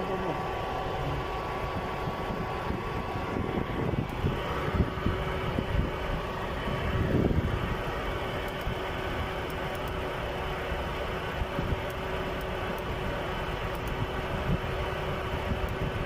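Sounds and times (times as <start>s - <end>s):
car engine running unevenly: 0.0s - 16.0s.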